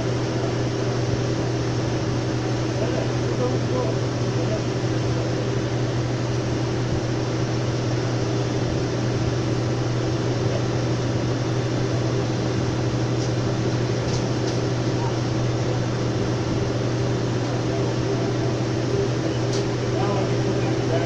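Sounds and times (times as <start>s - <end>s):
jet engine running: 0.0s - 21.0s.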